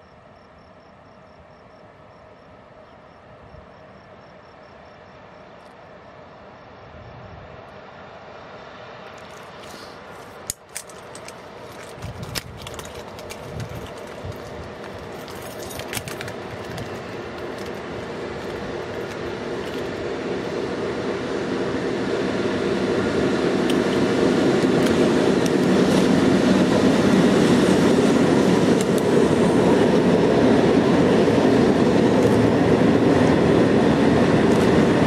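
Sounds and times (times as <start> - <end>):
locomotives hauling train: 0.0 - 35.0.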